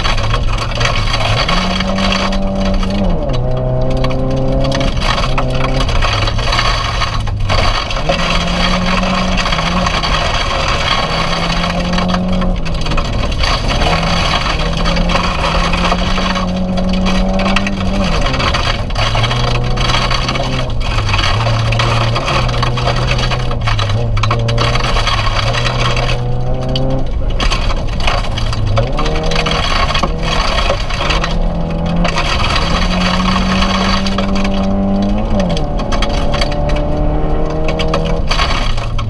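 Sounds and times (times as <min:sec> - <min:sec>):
gravel clattering against underbody: 0:00.0 - 0:39.0
rally car engine pulling hard: 0:00.0 - 0:39.0.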